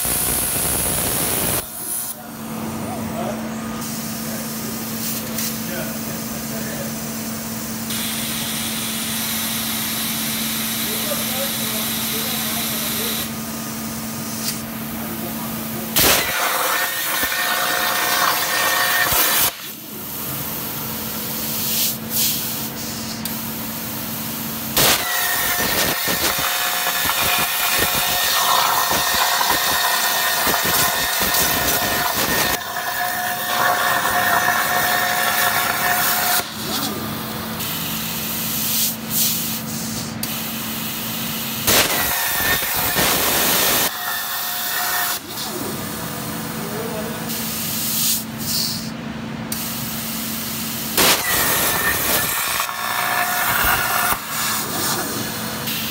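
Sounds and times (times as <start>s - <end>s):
plasma torch cutting steel: 0.0s - 2.3s, 7.9s - 13.4s, 15.3s - 20.5s, 21.2s - 46.1s, 47.3s - 48.9s, 49.5s - 55.9s.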